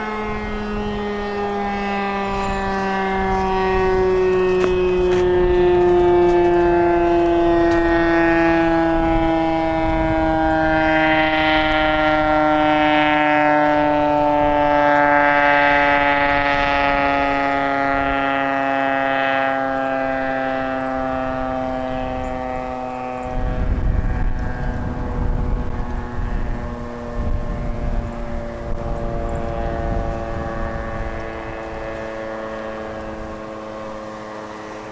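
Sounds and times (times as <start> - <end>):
warning siren winding down: 0.0 - 34.9.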